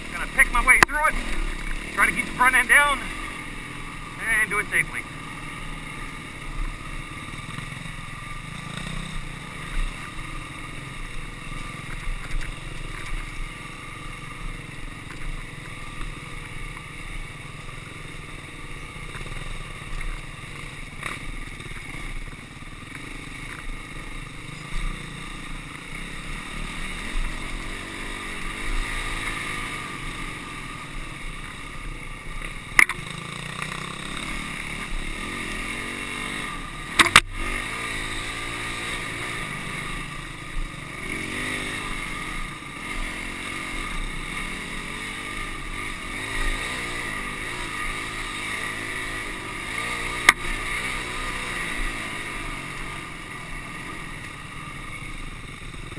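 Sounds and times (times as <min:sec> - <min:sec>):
dirt bike engine running: 0:00.0 - 0:55.9.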